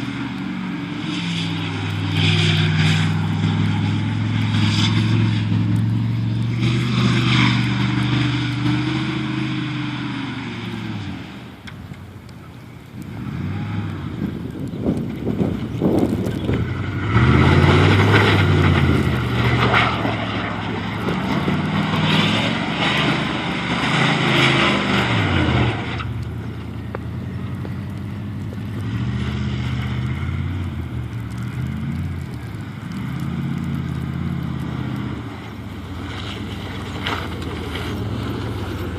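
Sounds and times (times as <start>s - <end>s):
truck engine revving: 0.0s - 11.6s, 12.9s - 38.9s.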